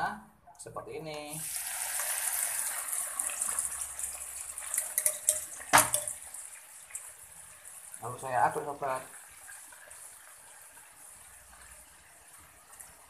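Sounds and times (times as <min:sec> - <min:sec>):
hot oil sizzling: 0:01.1 - 0:13.0.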